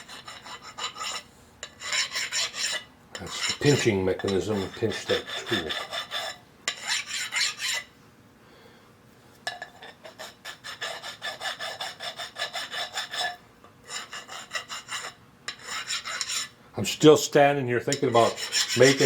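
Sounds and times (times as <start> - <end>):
hand file rasping on metal: 0.0 - 7.9, 9.8 - 16.6, 17.9 - 19.0.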